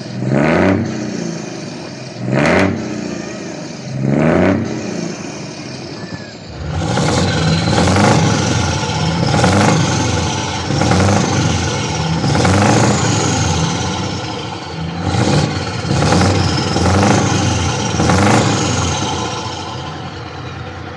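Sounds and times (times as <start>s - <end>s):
diesel truck engine revving: 0.0s - 20.9s.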